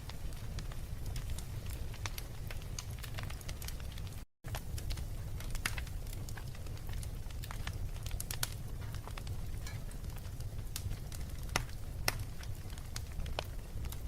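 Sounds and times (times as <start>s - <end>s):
fire crackling in fireplace: 0.0s - 14.0s.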